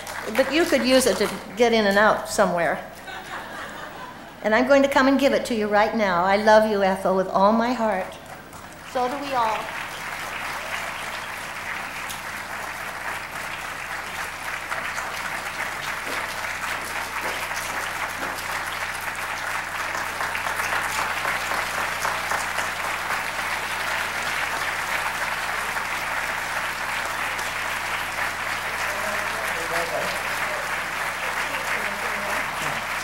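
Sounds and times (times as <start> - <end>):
audience applauding: 0.0 - 4.4, 7.9 - 33.0.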